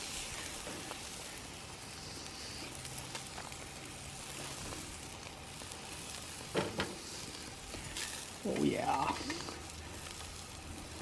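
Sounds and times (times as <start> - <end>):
sausages sizzling on a grill: 0.0 - 11.0.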